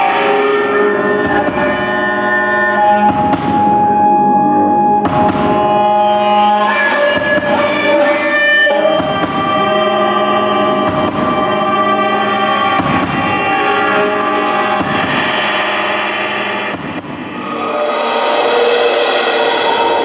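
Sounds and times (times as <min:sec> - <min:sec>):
distorted guitar drone tones: 0:00.0 - 0:20.0.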